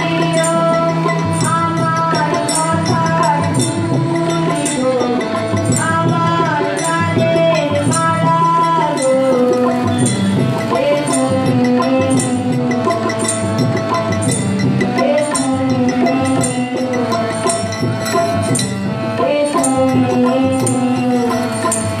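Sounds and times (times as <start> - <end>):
woman singing: 0.0 - 14.1, 14.7 - 22.0
harmonium: 0.0 - 22.0
jingling hand percussion: 0.0 - 22.0
tabla: 0.0 - 22.0.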